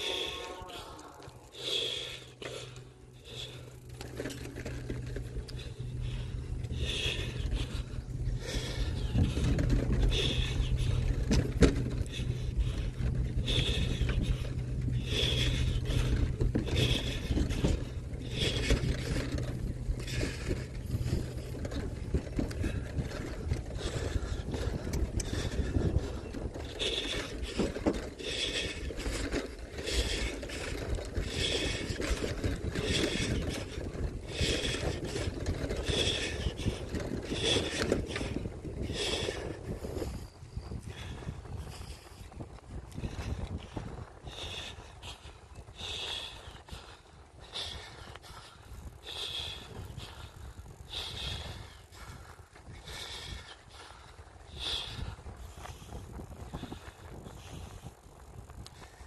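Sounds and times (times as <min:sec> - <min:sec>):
bicycle tyres on wooden planks: 0:00.0 - 0:59.0.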